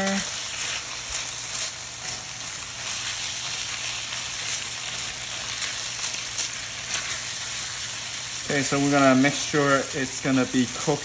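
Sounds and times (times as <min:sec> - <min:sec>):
chicken sizzling in hot oil: 0:00.0 - 0:11.0
spatula scraping wok: 0:00.0 - 0:11.0.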